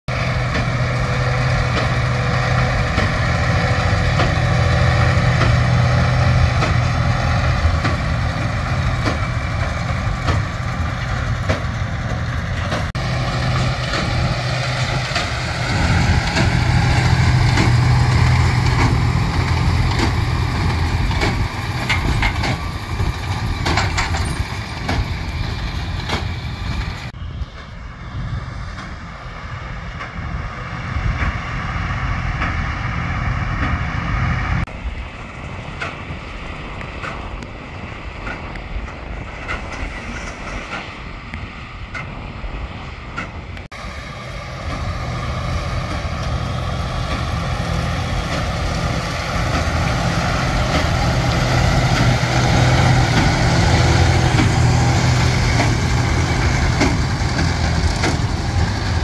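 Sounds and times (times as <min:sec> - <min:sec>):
tractor diesel engine running: 0:00.1 - 0:59.0.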